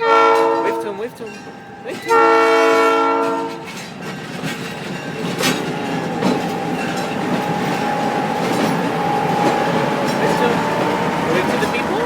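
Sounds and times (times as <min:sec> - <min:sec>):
train cars rolling past: 0:00.2 - 0:12.0
wheels clacking over rail joints: 0:00.2 - 0:12.0.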